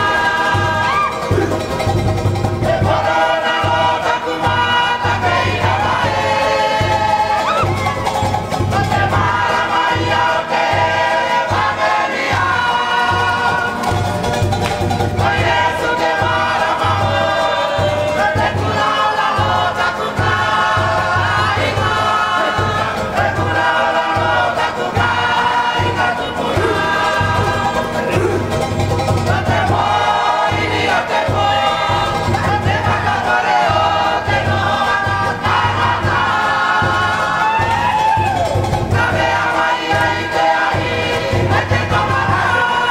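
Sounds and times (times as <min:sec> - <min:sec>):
choir singing in harmony: 0:00.0 - 0:14.3, 0:15.0 - 0:42.9
strummed ukuleles and guitars: 0:00.0 - 0:42.9
wooden drum beat: 0:00.0 - 0:42.9.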